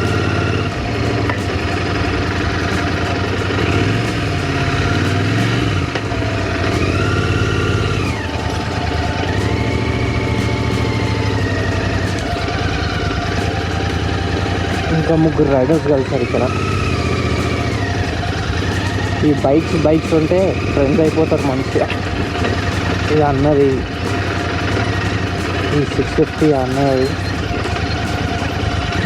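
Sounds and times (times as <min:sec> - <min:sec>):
motorcycle engine idling: 0:00.0 - 0:29.0
other engines revving: 0:00.0 - 0:29.0.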